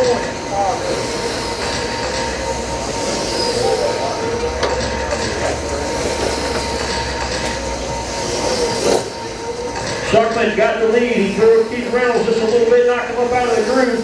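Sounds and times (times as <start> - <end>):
rc car motors whining: 0.0 - 14.0.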